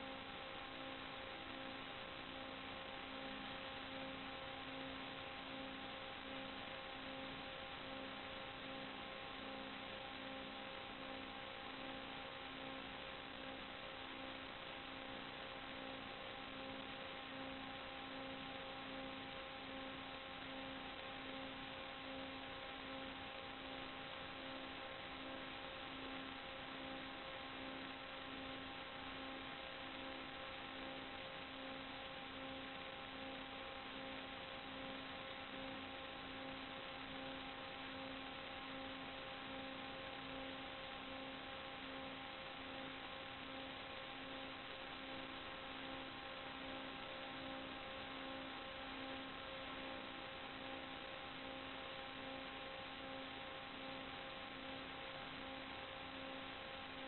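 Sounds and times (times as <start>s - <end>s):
electrical hum: 0.0s - 57.0s
static hiss: 0.0s - 57.0s.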